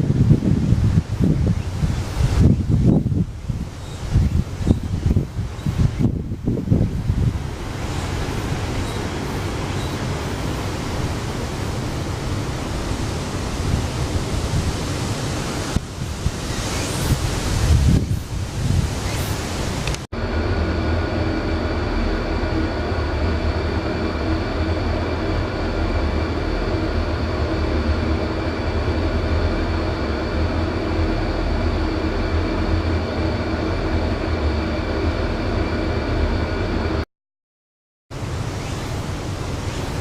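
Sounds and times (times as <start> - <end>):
mechanical hum with steady tones: 0.0 - 37.0, 38.1 - 40.0.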